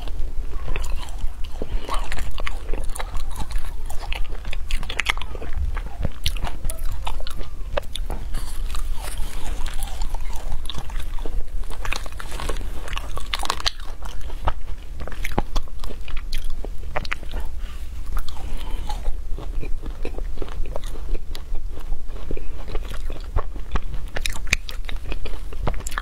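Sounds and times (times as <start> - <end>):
ice crunching between teeth: 0.0 - 26.0.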